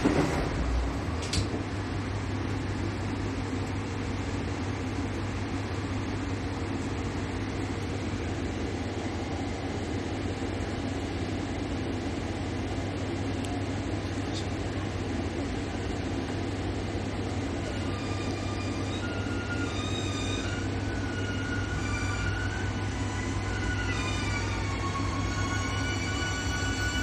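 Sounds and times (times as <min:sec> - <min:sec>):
train engine idling: 0:00.0 - 0:27.0.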